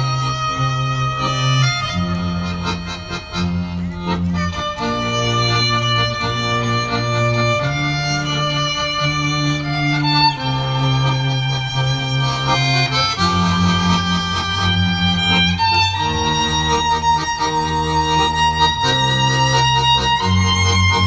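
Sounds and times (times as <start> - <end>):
higher sustained string melody: 0.0 - 21.0
low bowed strings held notes: 0.0 - 21.0.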